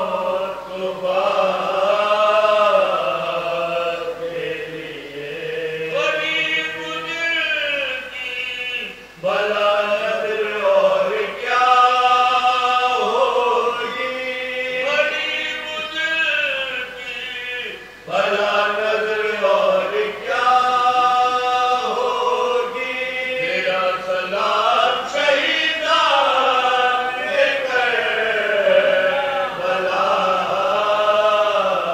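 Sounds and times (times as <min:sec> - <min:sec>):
men chanting without instruments: 0:00.0 - 0:31.9.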